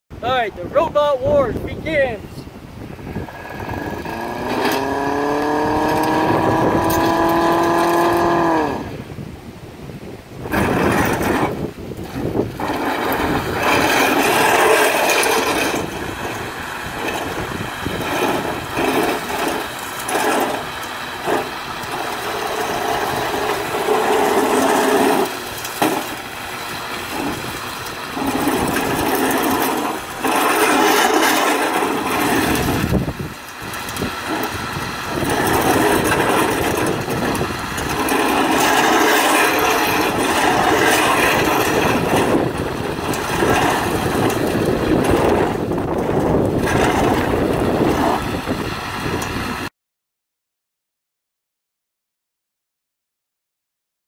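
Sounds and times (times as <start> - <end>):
electric motors whirring and grinding: 2.8 - 9.2, 10.3 - 49.7.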